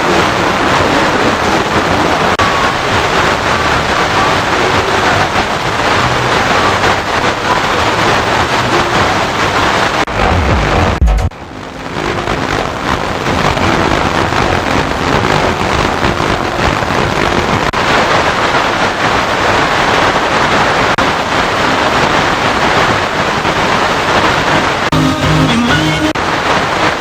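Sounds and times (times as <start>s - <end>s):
faint radio broadcast audio: 0.0s - 27.0s
radio static hissing: 0.0s - 27.0s.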